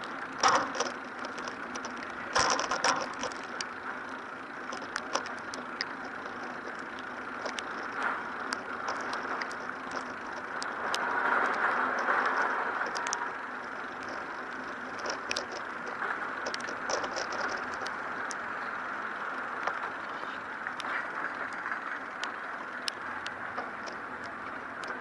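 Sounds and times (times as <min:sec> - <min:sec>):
rain: 0:00.0 - 0:25.0
sharp ticks: 0:00.0 - 0:25.0
traffic noise: 0:00.0 - 0:25.0.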